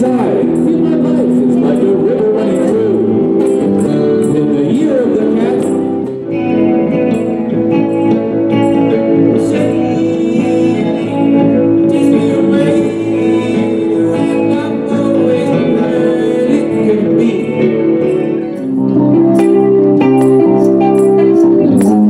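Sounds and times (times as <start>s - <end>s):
man singing: 0.0s - 7.0s, 8.4s - 19.9s
soft rock on electric guitars: 0.0s - 22.0s.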